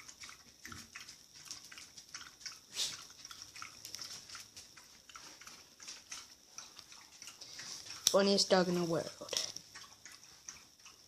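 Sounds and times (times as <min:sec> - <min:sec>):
dog lapping water from a bowl: 0:00.0 - 0:11.0.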